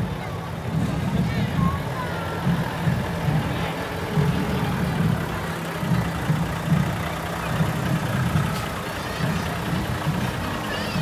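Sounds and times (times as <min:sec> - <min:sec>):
truck diesel engine rolling past: 0:00.0 - 0:11.0.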